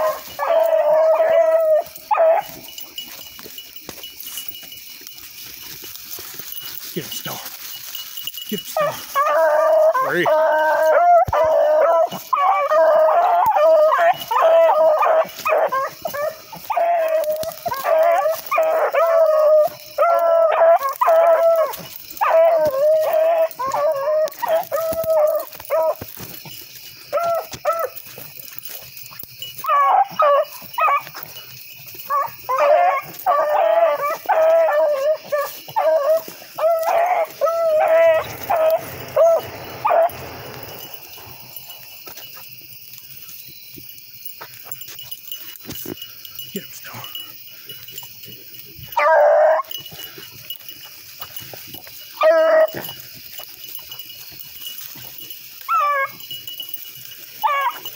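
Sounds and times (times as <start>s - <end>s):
hounds baying: 0.0s - 57.9s.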